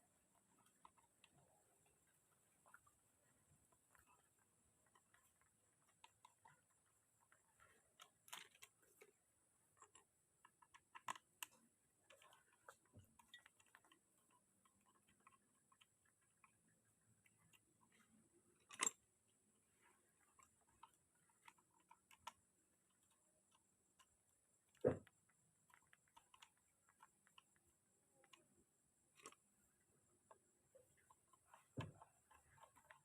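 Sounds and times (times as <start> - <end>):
faint clicks and taps: 0.0 - 33.0.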